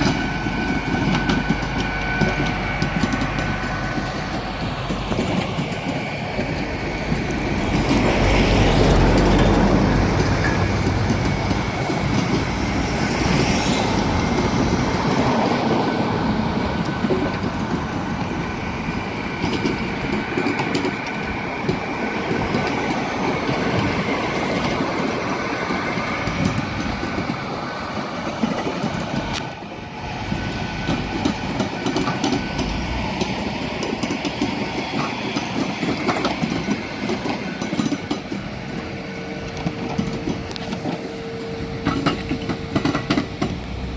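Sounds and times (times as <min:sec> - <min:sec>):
train wheels rolling on track: 0:00.0 - 0:43.9.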